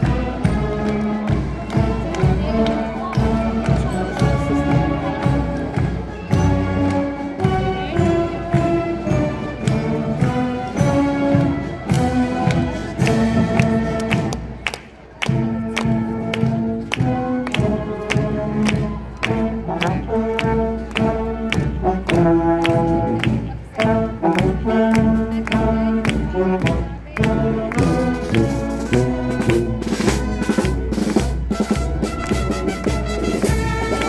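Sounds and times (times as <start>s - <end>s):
marching band playing: 0.0s - 34.0s.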